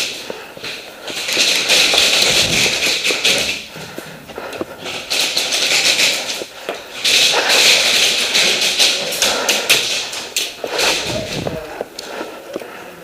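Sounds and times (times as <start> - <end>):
heavy breathing through mask: 0.0 - 13.0.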